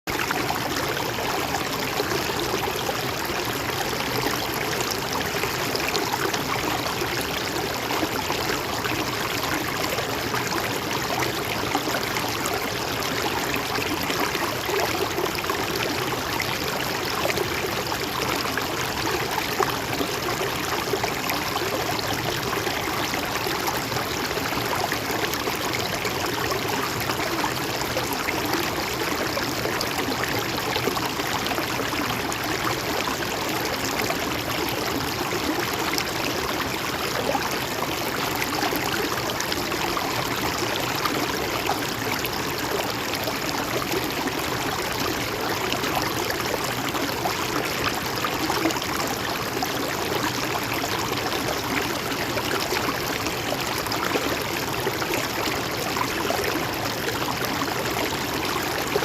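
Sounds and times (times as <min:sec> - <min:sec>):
stream flowing over rocks: 0:00.1 - 0:59.0.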